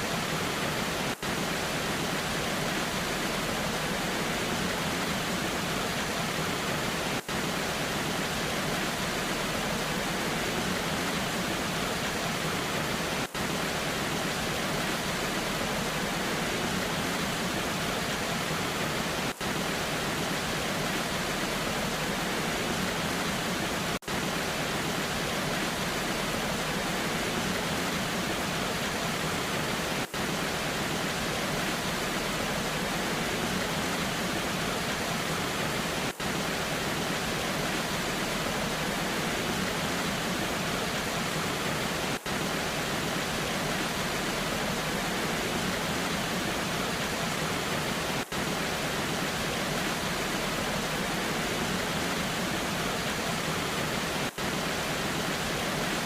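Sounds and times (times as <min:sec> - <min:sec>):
waterfall rushing in rain: 0:00.0 - 0:56.0.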